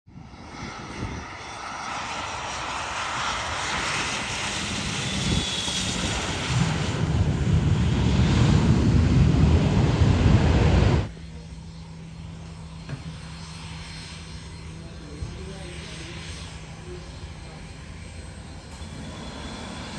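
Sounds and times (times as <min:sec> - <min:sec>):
jet engines roaring: 0:00.1 - 0:19.9.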